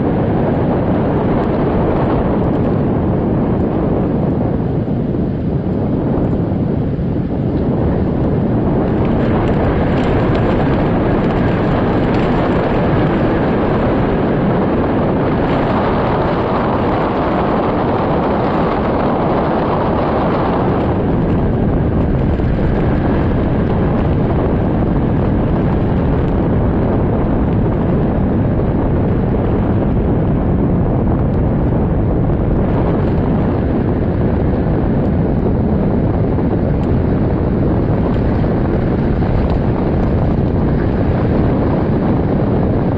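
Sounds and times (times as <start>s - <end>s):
storm wind buffeting microphone: 0.0s - 42.9s.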